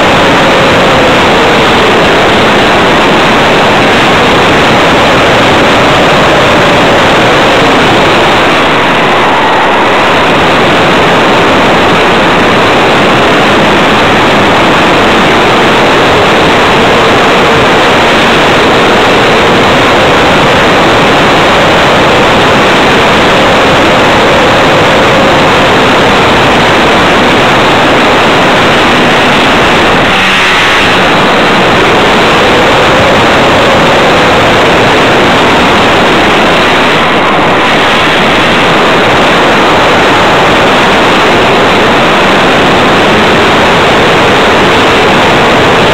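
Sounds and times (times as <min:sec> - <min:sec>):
rushing air noise: 0:00.0 - 0:45.9.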